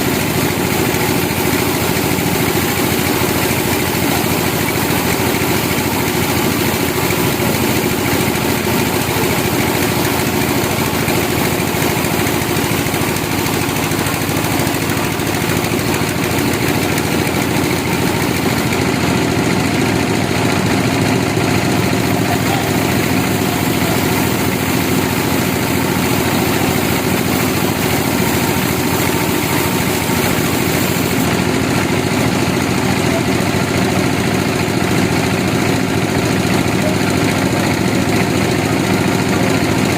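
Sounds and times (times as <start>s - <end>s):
sawmill machinery engine drone: 0.0s - 39.9s.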